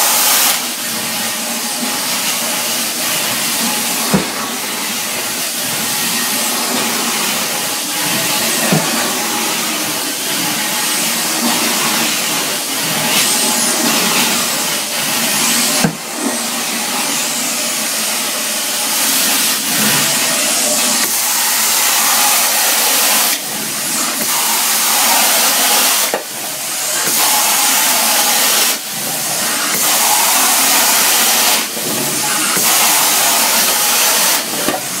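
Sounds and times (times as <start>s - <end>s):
vacuum rushing hiss: 0.0s - 35.0s.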